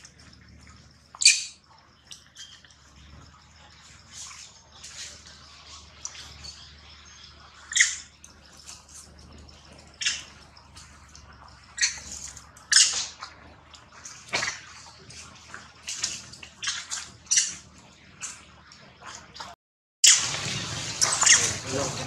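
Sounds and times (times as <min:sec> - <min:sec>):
monkeys giving alarm calls: 0:00.0 - 0:01.7, 0:02.3 - 0:18.5, 0:20.1 - 0:21.9
faint low hum: 0:00.0 - 0:19.5.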